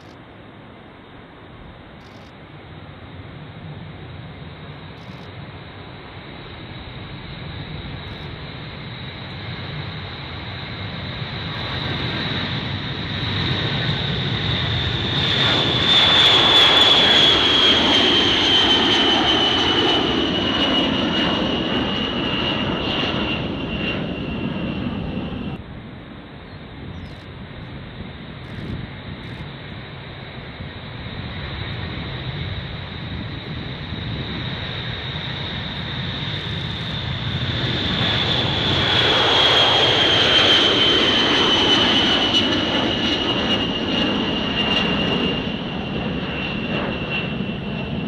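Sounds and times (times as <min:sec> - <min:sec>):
high turbine whine: 0:00.0 - 0:48.0
jet bomber engines roaring: 0:00.0 - 0:48.0.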